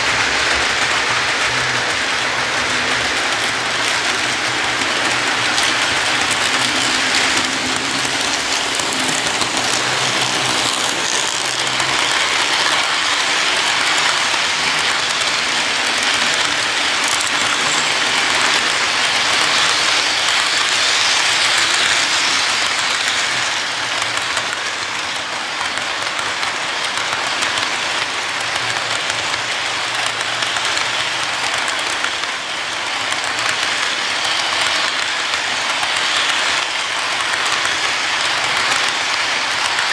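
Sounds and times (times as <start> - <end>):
model train wheels rolling on rails: 0.0 - 39.9.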